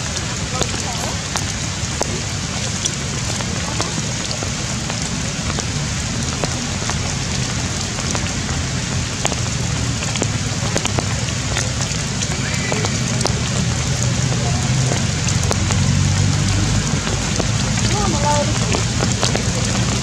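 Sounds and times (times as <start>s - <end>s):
raindrops tapping sharply: 0.0s - 20.0s
steady rain: 0.0s - 20.0s.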